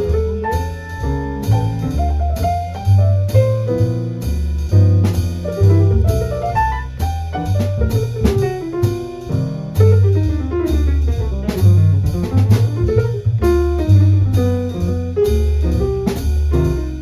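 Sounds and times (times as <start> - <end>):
bass notes: 0.0 - 17.0
drum kit cymbal and drums: 0.0 - 17.0
jazz piano: 0.0 - 17.0.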